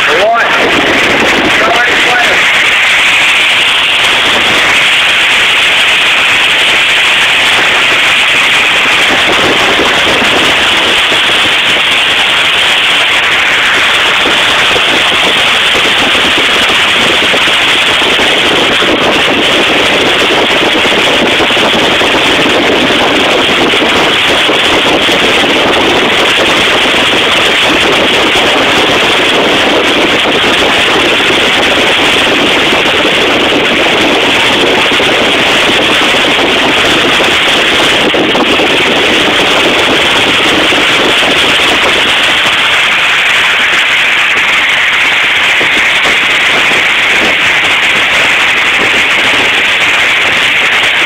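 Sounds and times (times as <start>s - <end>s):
industrial vacuum suction rushing: 0.0s - 51.0s.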